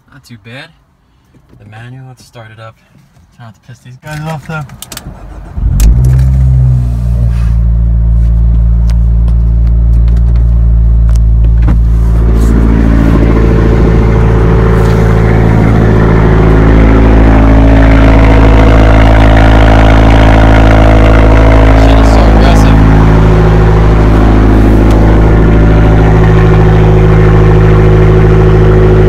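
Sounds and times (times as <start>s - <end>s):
car engine starting and idling: 2.8s - 29.0s.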